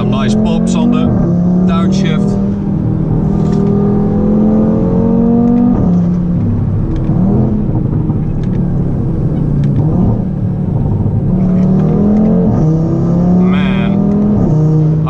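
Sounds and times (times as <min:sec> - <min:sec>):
car engine revving: 0:00.0 - 0:15.0
exhaust crackles: 0:00.0 - 0:15.0
gear change: 0:00.0 - 0:15.0.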